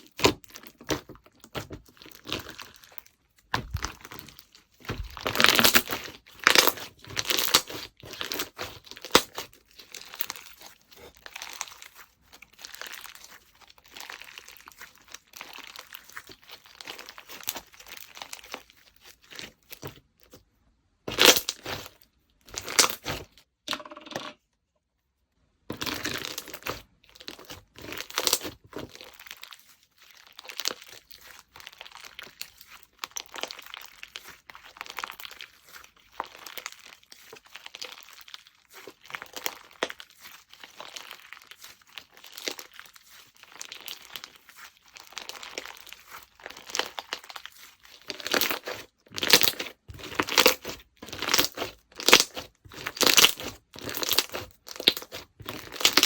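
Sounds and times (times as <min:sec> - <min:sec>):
slime squishing and crackling: 0:00.0 - 0:23.4, 0:25.7 - 0:56.0.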